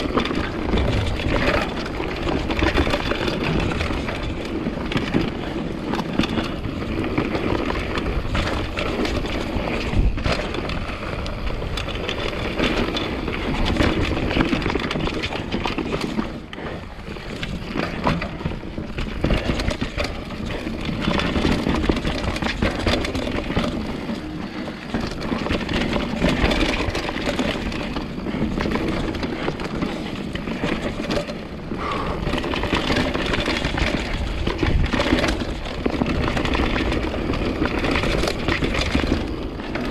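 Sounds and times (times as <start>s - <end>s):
bike rattling and knocking: 0.0s - 39.9s
bike tyres on dirt: 0.0s - 39.9s.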